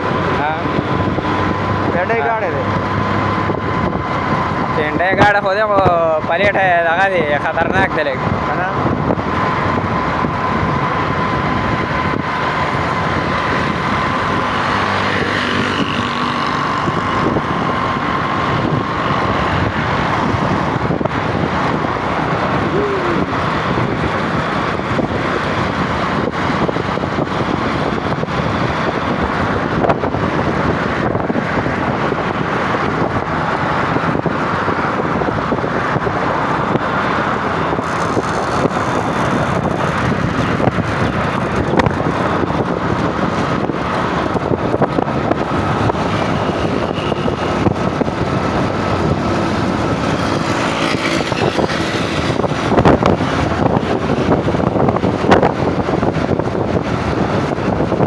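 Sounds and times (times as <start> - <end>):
vehicle road noise: 0.0 - 58.0.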